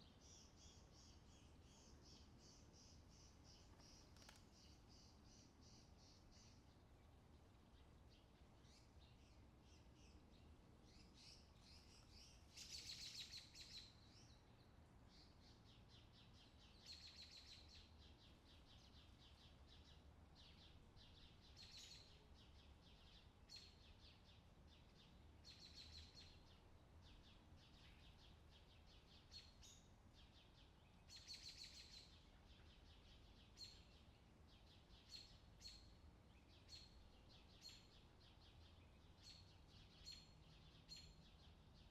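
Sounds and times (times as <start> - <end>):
faint birdsong: 0.0 - 41.9.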